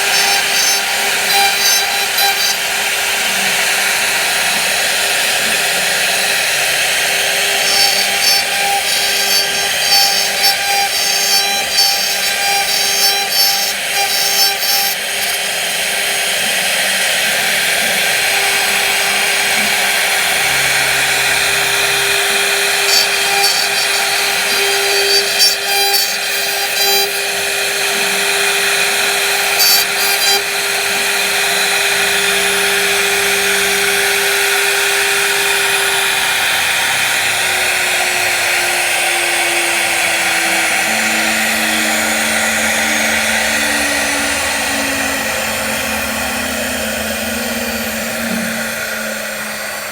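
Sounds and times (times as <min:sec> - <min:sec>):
crackling wood cutting noise: 0:00.0 - 0:49.9
power tool whining: 0:00.0 - 0:49.9.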